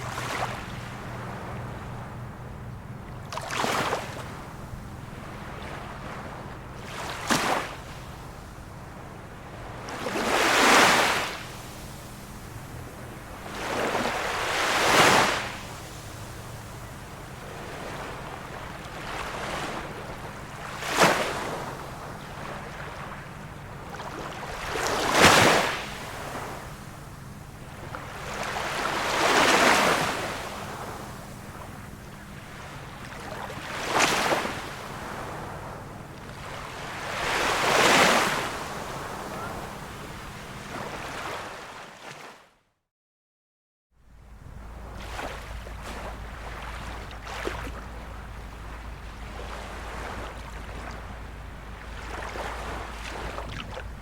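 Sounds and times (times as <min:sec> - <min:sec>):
small waves breaking: 0:00.0 - 0:42.5, 0:44.1 - 0:54.0.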